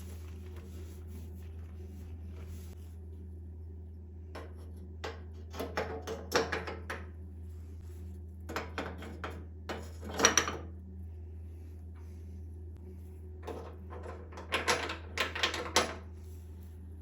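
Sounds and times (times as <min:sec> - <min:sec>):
low hum: 0:00.0 - 0:15.2, 0:16.0 - 0:17.0.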